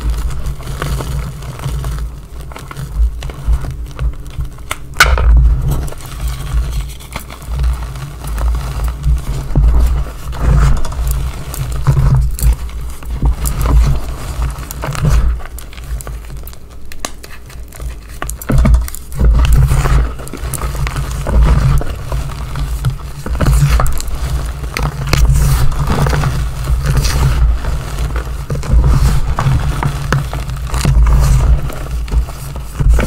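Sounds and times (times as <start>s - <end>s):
gloved hands squeezing chalk: 0.0s - 33.0s.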